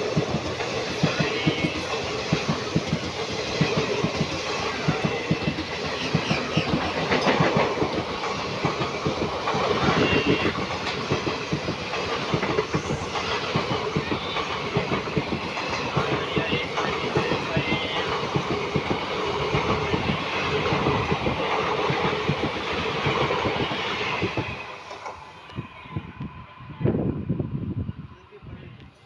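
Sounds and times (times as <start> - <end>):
train wheels clattering: 0.0 - 25.5
train rushing noise: 0.0 - 29.0.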